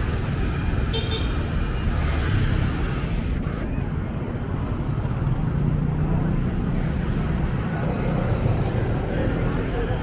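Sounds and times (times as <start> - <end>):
vehicle engines in traffic: 0.0 - 10.0.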